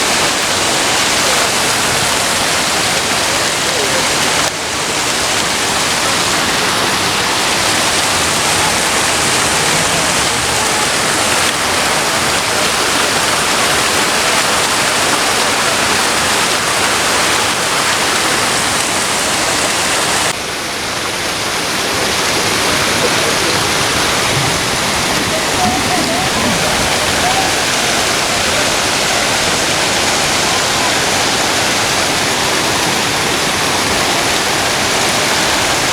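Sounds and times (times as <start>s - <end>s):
falling water rushing: 0.0s - 35.9s.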